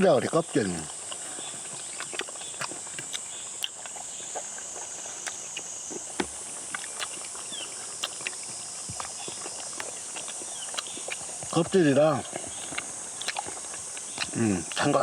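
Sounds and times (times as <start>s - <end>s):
insects droning: 0.0s - 15.0s
mouth sounds of eating: 0.0s - 15.0s.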